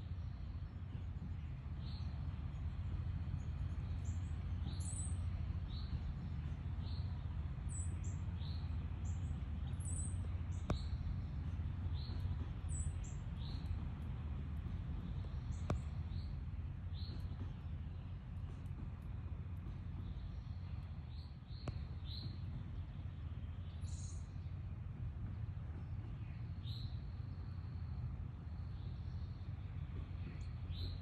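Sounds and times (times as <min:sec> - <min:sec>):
birds chirping: 0:00.0 - 0:31.0
steady low rumble: 0:00.0 - 0:31.0.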